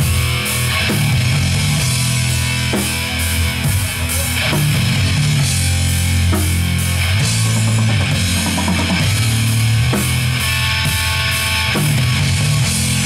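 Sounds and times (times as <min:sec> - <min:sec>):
bass riffing: 0:00.0 - 0:13.0
distorted electric guitar: 0:00.0 - 0:13.0
drum kit with cymbal hits: 0:00.0 - 0:13.0.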